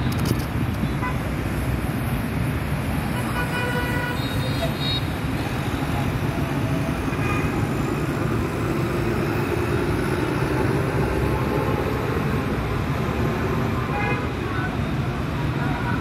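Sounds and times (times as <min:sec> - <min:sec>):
motorbikes and cars in traffic: 0:00.0 - 0:16.0.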